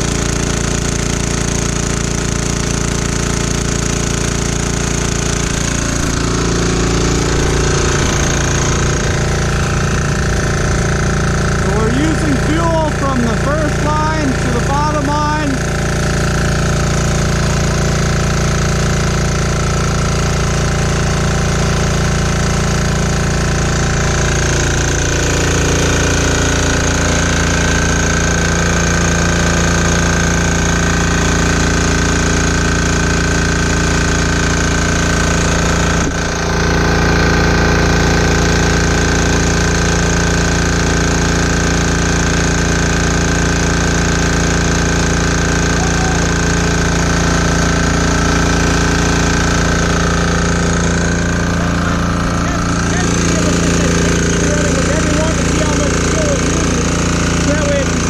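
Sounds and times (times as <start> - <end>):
diesel generator engine clatter: 0.0 - 58.0.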